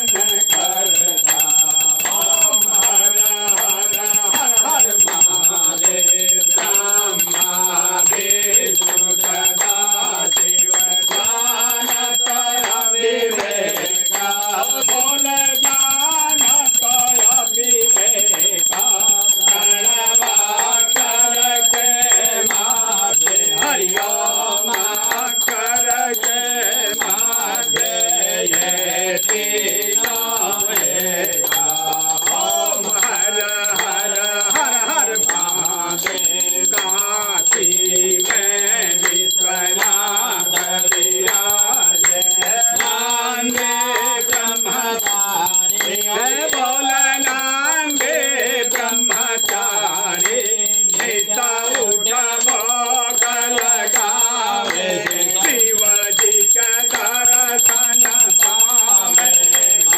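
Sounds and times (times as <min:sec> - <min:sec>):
hands clapping: 0:00.0 - 0:16.7, 0:19.5 - 0:59.9
group of voices singing: 0:00.0 - 0:59.9
small brass hand bell ringing: 0:00.0 - 0:59.9.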